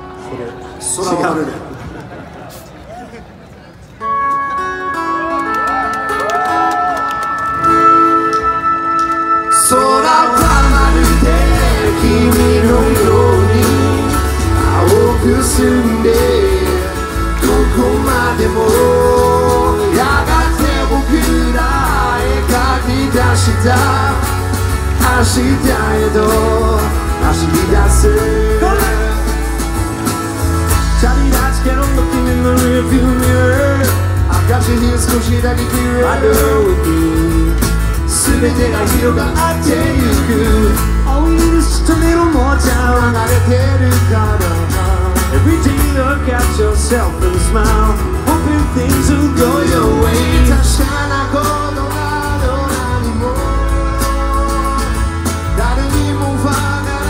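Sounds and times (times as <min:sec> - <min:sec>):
acoustic guitars: 0:03.9 - 0:57.0
person singing: 0:09.3 - 0:57.0
heavy bass line: 0:10.3 - 0:57.0.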